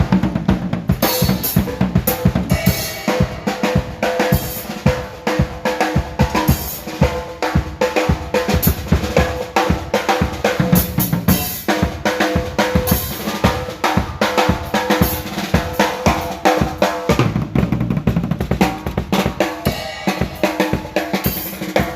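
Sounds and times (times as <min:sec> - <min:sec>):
drum kit groove: 0:00.0 - 0:21.9.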